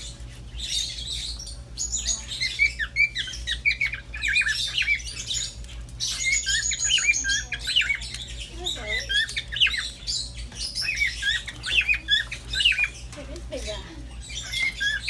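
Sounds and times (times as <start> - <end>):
pet birds chirping and squawking: 0.0 - 15.0.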